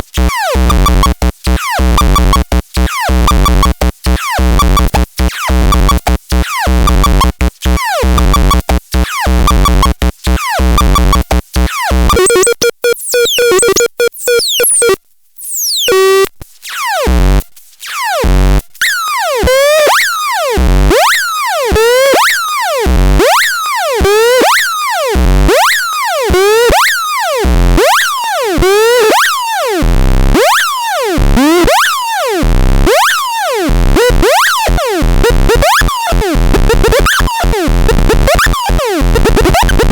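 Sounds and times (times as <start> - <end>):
fast pulsing synth tones: 1.8 - 10.0, 10.6 - 14.8, 18.2 - 39.9.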